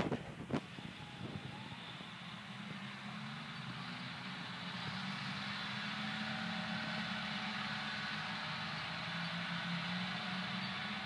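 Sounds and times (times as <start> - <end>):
machinery engines humming: 0.0 - 11.0.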